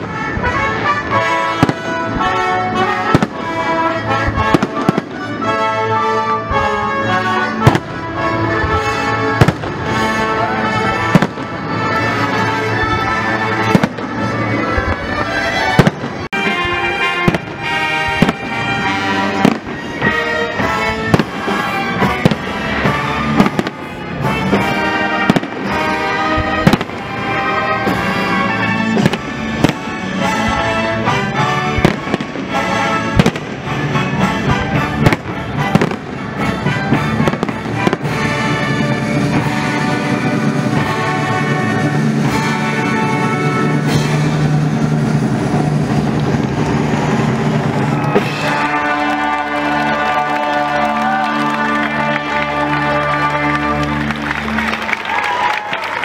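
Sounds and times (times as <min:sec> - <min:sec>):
fireworks bursting: 0:00.0 - 0:56.0
music playing: 0:00.0 - 0:56.0.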